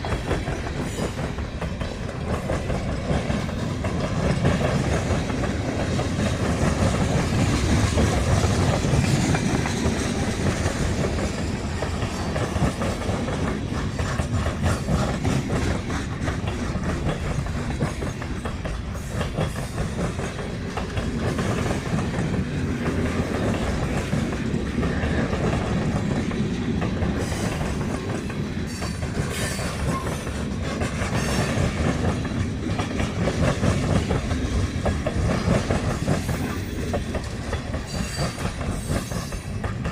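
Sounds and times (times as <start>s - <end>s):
freight train rolling past: 0.0s - 39.9s
train wheels clicking on rail joints: 0.0s - 39.9s.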